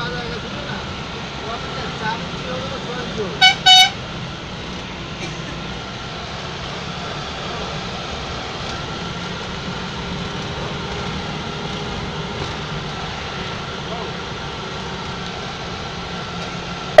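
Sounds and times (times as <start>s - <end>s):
vehicle engine and tyres droning: 0.0s - 17.0s.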